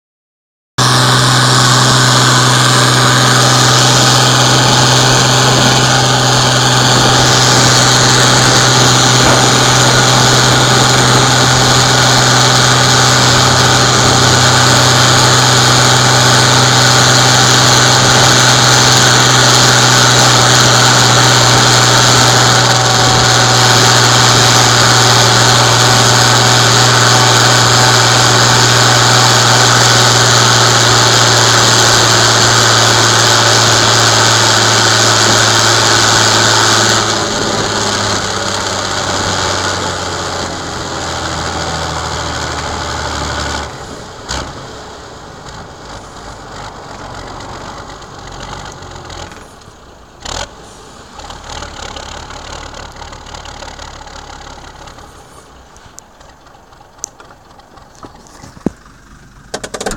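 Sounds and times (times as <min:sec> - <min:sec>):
tractor diesel engine under load: 0:00.8 - 0:59.9.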